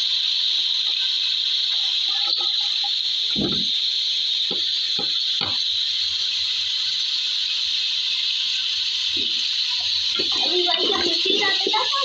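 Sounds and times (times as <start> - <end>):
food sizzling on stove: 0.0 - 12.0.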